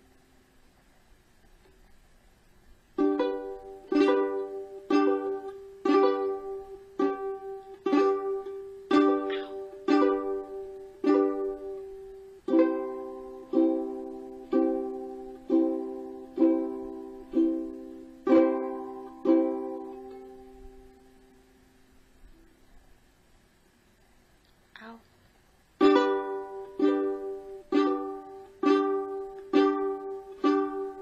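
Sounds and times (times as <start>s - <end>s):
ukulele chords strummed: 2.9s - 22.6s, 25.8s - 31.0s.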